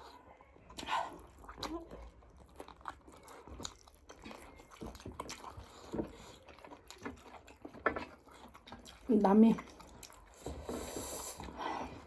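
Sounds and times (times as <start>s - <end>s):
people chewing food: 0.0s - 12.0s.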